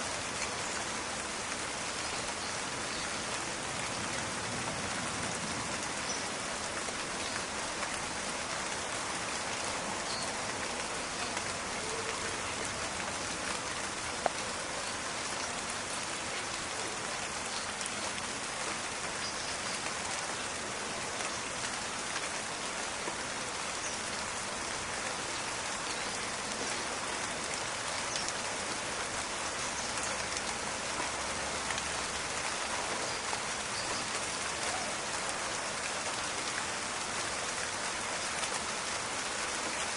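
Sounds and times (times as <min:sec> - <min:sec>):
dense rain patter in forest: 0:00.0 - 0:39.9.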